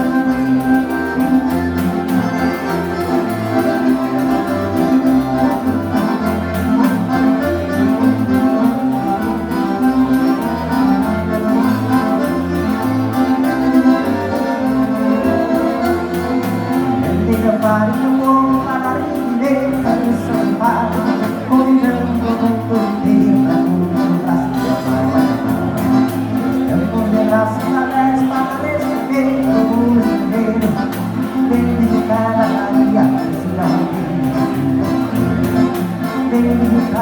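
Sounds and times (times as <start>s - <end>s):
accordion melody: 0.0s - 37.0s
pulsing bass: 0.0s - 37.0s.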